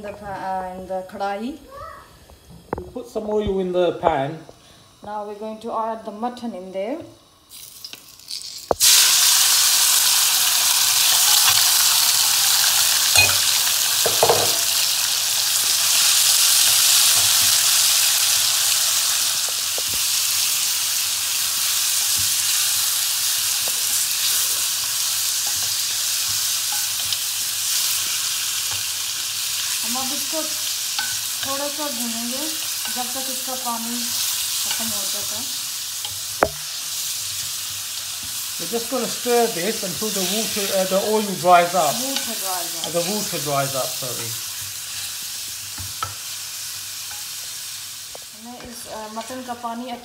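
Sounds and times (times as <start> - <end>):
meat sizzling in hot oil: 7.4 - 50.0.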